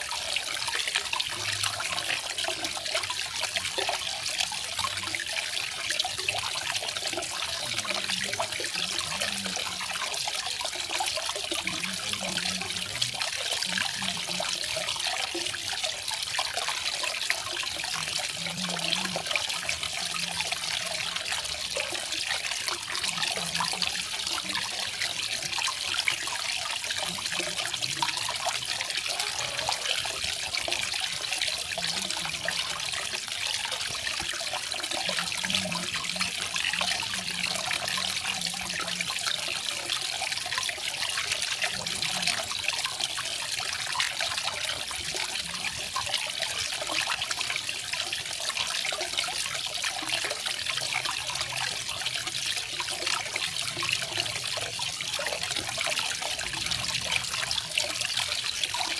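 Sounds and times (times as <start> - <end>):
small waterfall trickling: 0.0 - 58.9.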